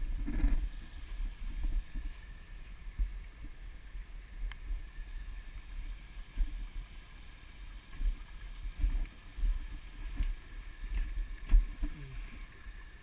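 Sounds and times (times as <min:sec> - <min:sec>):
creek trickling over stones: 0:00.7 - 0:13.0.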